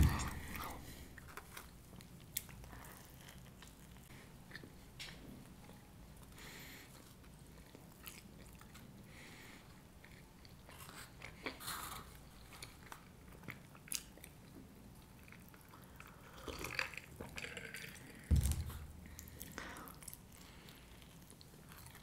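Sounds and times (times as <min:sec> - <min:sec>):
wet chewing of pizza: 0:00.0 - 0:22.0.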